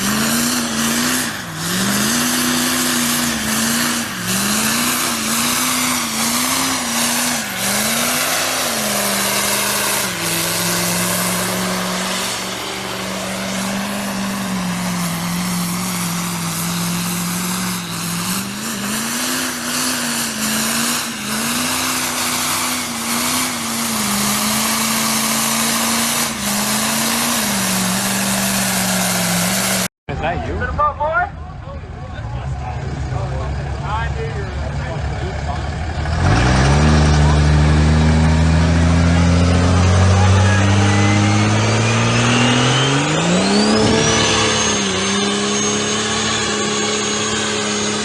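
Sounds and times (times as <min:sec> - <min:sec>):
diesel truck engine revving: 0:00.0 - 0:48.0.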